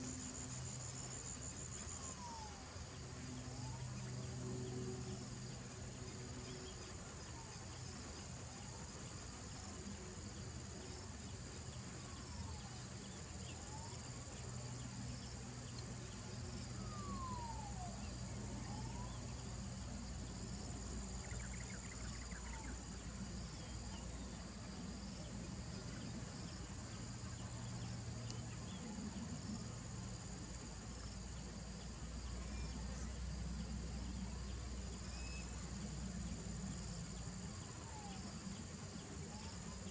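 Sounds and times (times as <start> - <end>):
shrill insect chorus: 0.0 - 39.9.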